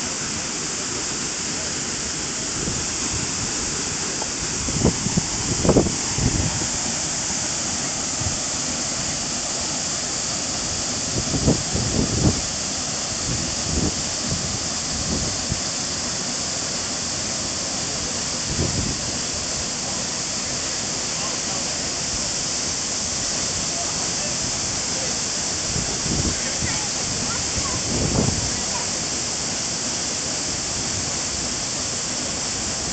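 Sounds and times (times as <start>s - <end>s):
waterfall pouring: 0.0s - 32.9s.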